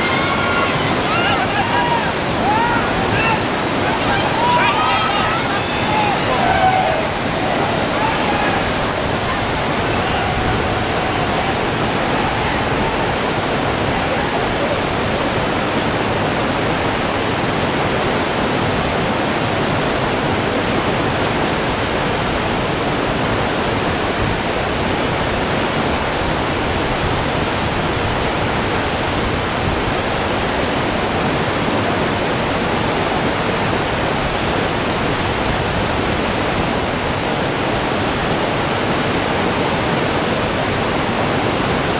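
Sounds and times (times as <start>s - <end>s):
river rapid rushing: 0.0s - 41.9s.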